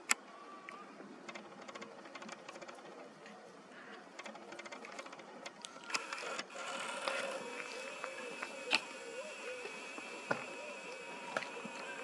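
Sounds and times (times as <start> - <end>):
rapid mechanical clicking: 0.0 - 0.3, 1.0 - 12.0.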